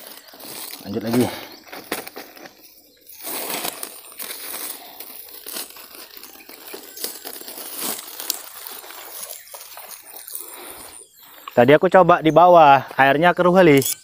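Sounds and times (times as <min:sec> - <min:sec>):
plastic sack and grass rustling: 0:00.0 - 0:11.7
sharp crackles: 0:00.0 - 0:12.0.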